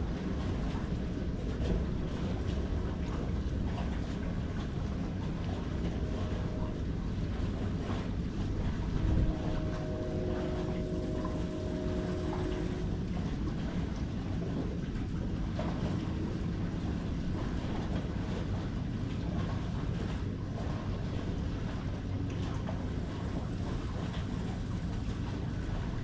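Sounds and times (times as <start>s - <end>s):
faint steady hum: 0.0s - 26.0s
wind buffeting microphone: 0.0s - 26.0s.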